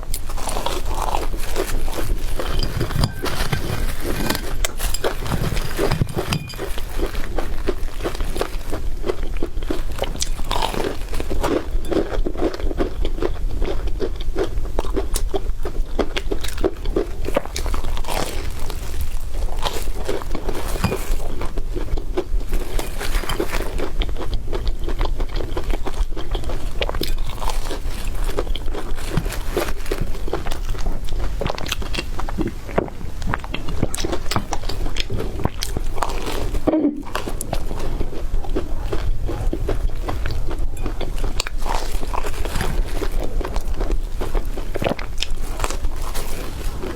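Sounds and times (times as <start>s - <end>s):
crunchy chewing of bread: 0.0s - 46.9s.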